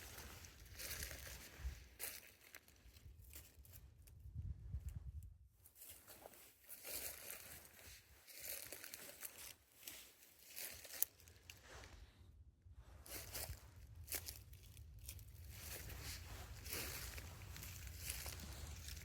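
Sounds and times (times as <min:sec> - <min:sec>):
footsteps crunching through dry leaves: 0:00.0 - 0:03.8, 0:05.8 - 0:11.9, 0:13.0 - 0:19.0.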